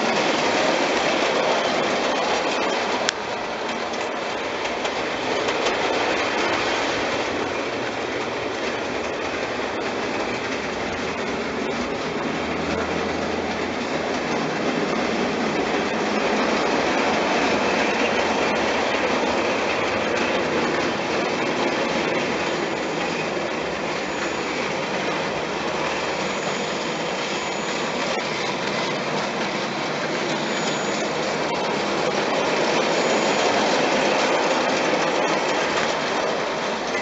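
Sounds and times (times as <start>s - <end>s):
model train running on track: 0.0s - 37.0s.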